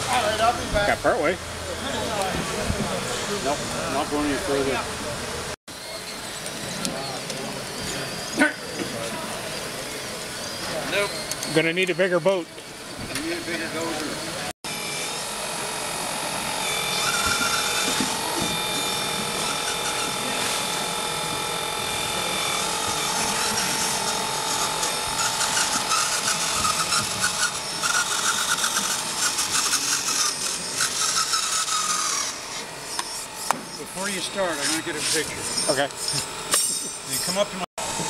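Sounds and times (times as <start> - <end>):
geared motors clicking whir: 0.0 - 38.0
small electric motors whining: 0.0 - 38.0.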